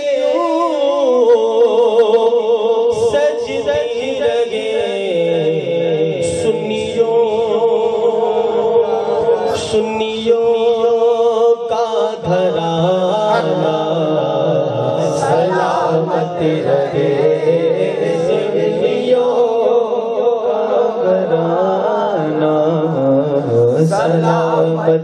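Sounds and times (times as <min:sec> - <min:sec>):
man singing devotional melody: 0:00.0 - 0:25.0.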